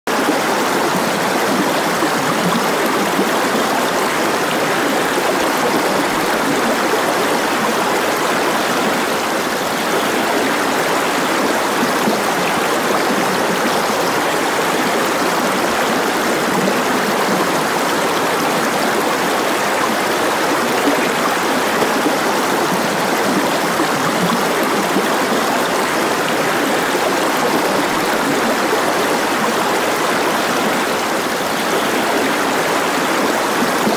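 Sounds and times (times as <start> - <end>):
running water: 0.1 - 33.9.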